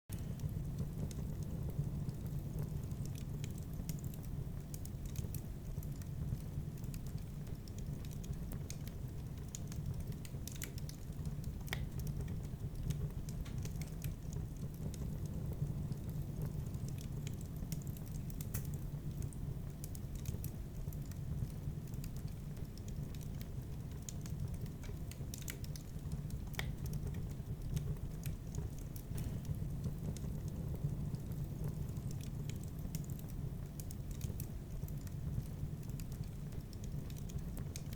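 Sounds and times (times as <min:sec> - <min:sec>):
wood fire crackling and popping: 0:00.1 - 0:37.9.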